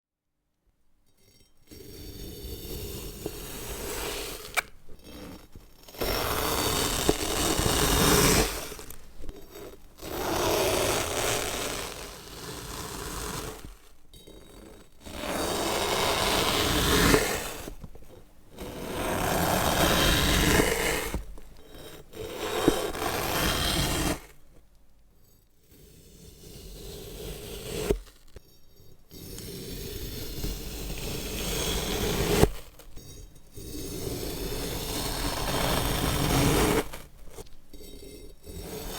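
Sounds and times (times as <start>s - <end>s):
blade scraping through material: 1.7s - 24.4s, 29.1s - 38.9s.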